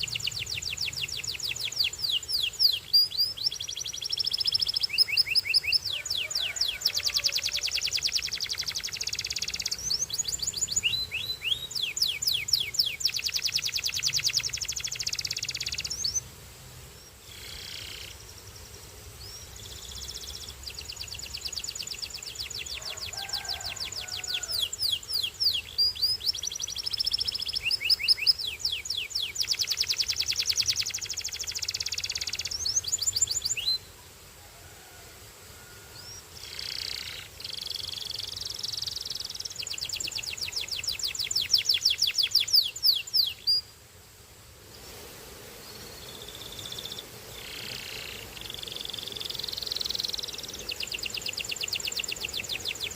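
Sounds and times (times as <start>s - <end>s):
canary singing trills: 0.0s - 16.3s, 17.0s - 18.3s, 19.2s - 33.9s, 35.9s - 43.8s, 45.6s - 52.9s.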